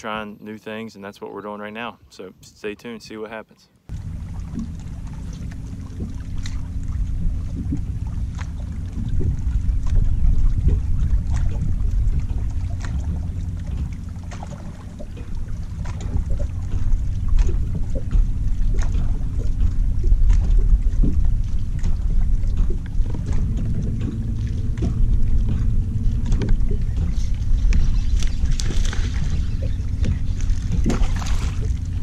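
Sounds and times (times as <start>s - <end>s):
water lapping against hull: 0.0s - 32.0s
steady low rumble: 3.8s - 32.0s
small knocks and splashes: 3.9s - 32.0s.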